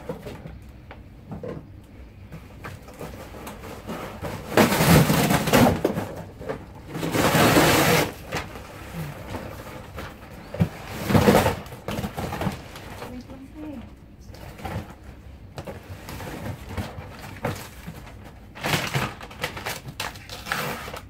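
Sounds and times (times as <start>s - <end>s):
rustling and scuffling of objects: 0.0s - 21.0s.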